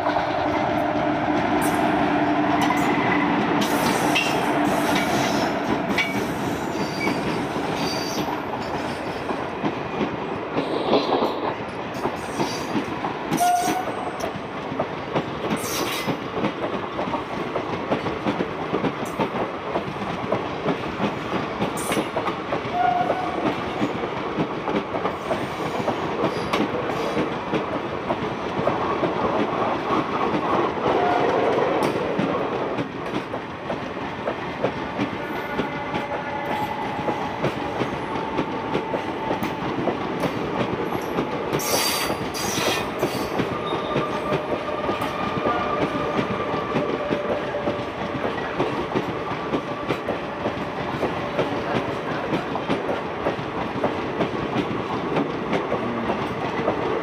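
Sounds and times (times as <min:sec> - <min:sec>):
train coaches rumbling past: 0:00.0 - 0:57.0.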